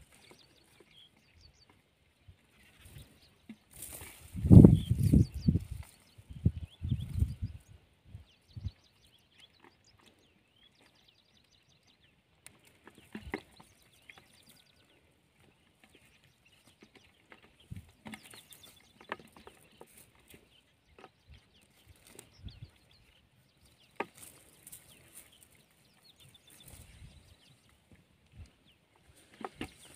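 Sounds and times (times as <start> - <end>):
birds calling: 0.0 - 29.9.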